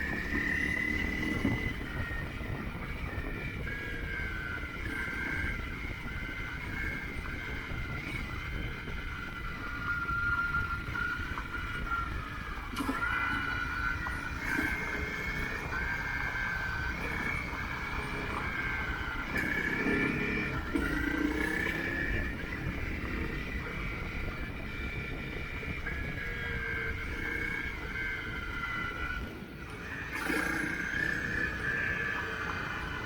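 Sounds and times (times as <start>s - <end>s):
motorcycle engine revving: 0.0s - 33.0s
wind and road noise: 0.0s - 33.0s.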